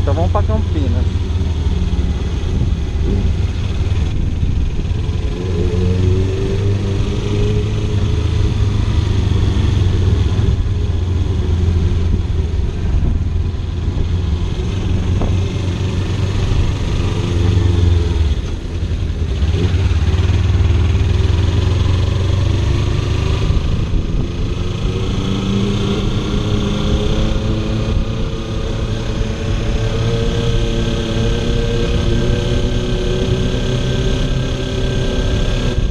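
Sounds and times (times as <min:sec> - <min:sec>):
wind rumble on microphone: 0:01.4 - 0:35.9.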